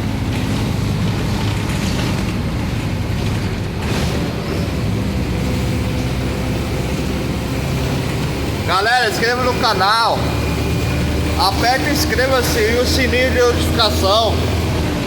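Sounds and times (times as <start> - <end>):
bus engine drone: 0.0 - 15.0
road and cabin noise: 0.0 - 15.0.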